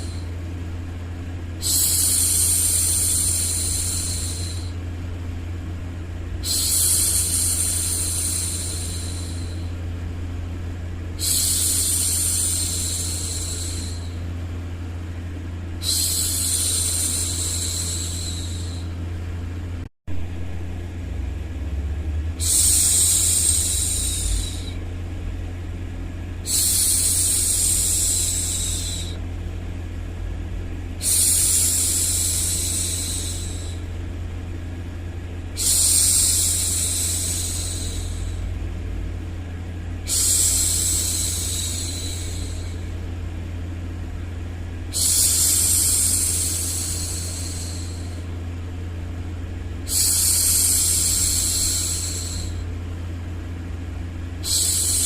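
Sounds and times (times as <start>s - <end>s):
low white noise rumble: 0.0s - 55.0s.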